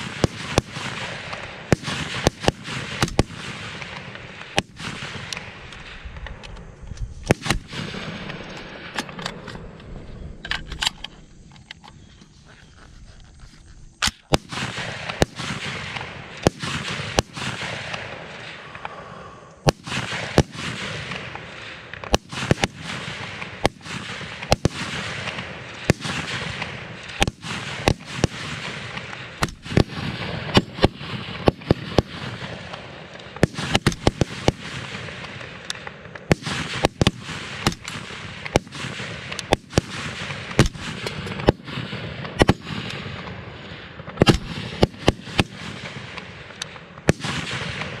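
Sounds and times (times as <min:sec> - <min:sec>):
rifle shots: 0:00.0 - 0:06.6, 0:07.2 - 0:11.2, 0:14.0 - 0:48.0
rolling echo: 0:00.0 - 0:13.2, 0:14.0 - 0:48.0.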